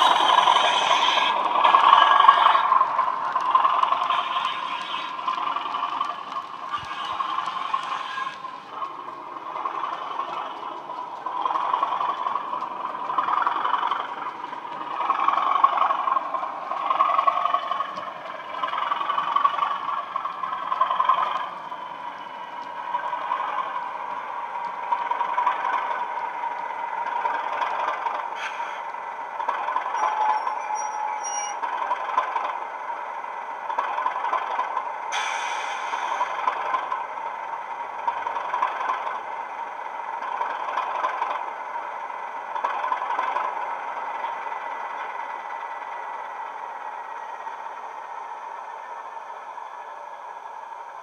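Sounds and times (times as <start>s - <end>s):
model diesel locomotive engine sound: 0.0s - 51.0s.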